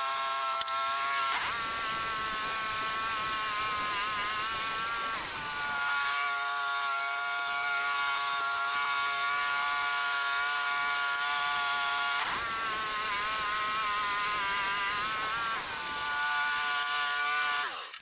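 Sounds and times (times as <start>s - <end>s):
band sawmill cutting log: 0.0s - 18.0s.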